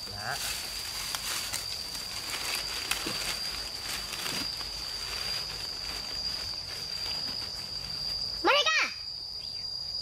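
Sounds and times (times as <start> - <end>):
twigs and leaves rustling: 0.0 - 8.5
high insect drone: 0.0 - 10.0.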